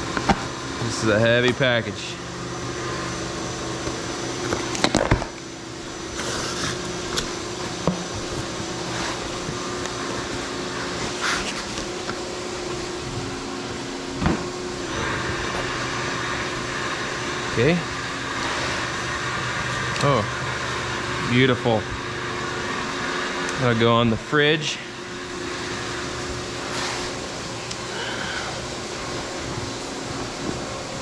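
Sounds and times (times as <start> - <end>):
milling machine humming: 0.0 - 31.0.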